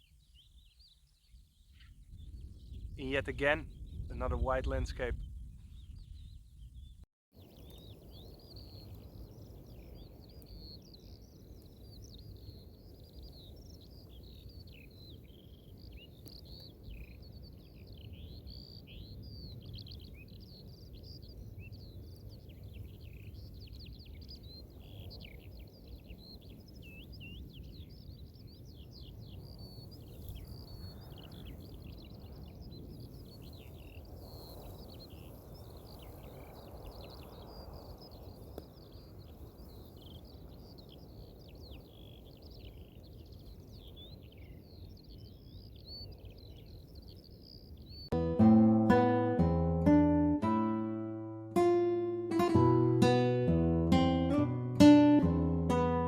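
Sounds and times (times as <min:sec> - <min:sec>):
wind rumble on microphone: 0:00.0 - 0:48.2
songbirds chirping and trilling: 0:00.0 - 0:56.0.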